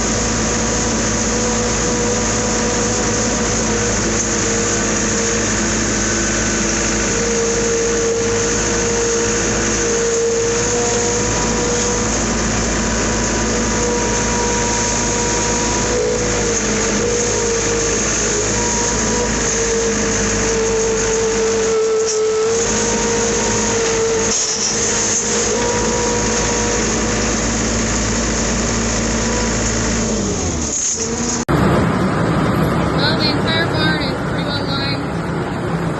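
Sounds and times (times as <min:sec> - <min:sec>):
farm machine engine running: 0:00.0 - 0:35.9.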